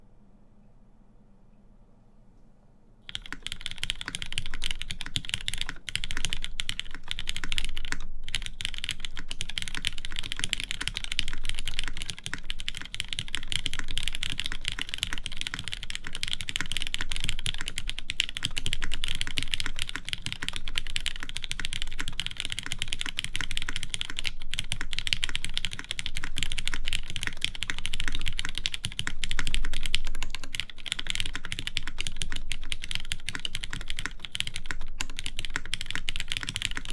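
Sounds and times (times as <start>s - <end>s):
mechanical keyboard typing: 3.1s - 36.9s.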